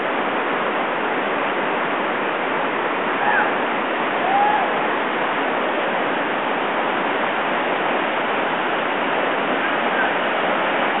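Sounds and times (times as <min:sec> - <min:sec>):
water rushing over rapids: 0:00.0 - 0:11.0.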